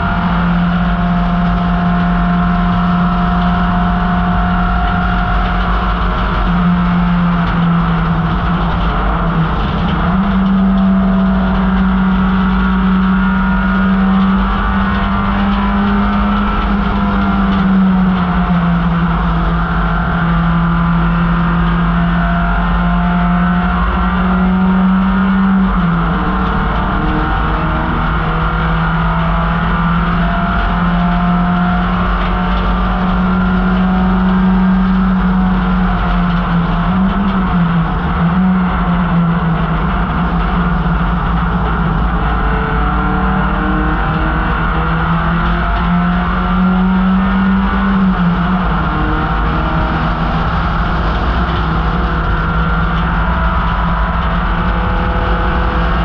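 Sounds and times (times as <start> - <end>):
race car engine at high revs: 0.0 - 56.0
wind and road noise: 0.0 - 56.0.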